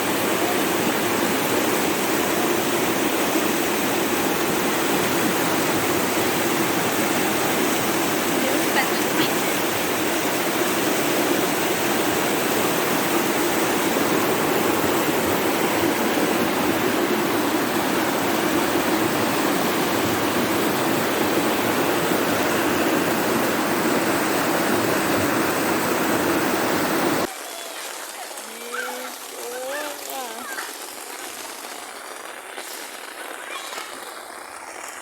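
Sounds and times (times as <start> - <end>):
rushing rain water runoff: 0.0 - 35.0.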